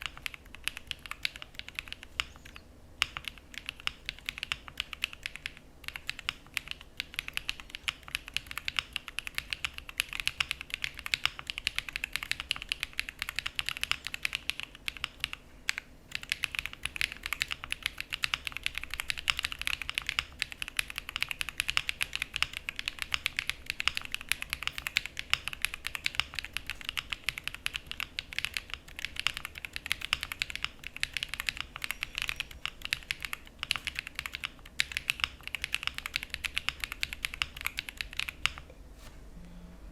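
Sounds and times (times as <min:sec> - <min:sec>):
mechanical keyboard typing: 0:00.0 - 0:38.7.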